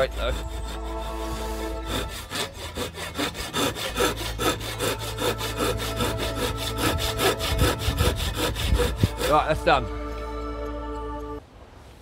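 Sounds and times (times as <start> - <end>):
hand saw cutting wood: 0.0 - 9.8.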